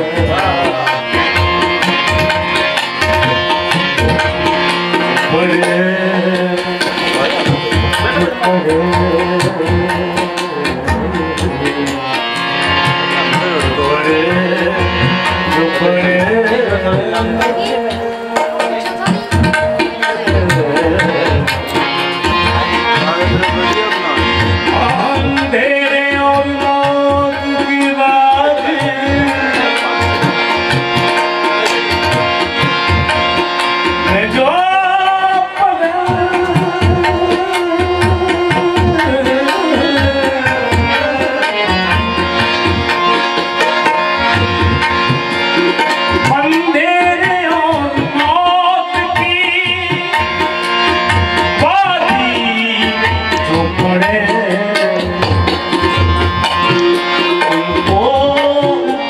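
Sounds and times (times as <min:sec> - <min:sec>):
man singing: 0:00.0 - 0:33.2, 0:33.8 - 0:59.0
harmonium chords: 0:00.0 - 0:59.0
tabla rhythm: 0:00.0 - 0:59.0.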